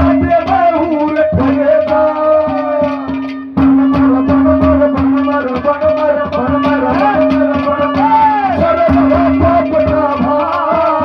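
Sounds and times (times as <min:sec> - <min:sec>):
held drone note: 0:00.0 - 0:10.6
hand drum strokes: 0:00.0 - 0:11.0
instrumental melody: 0:00.0 - 0:11.0.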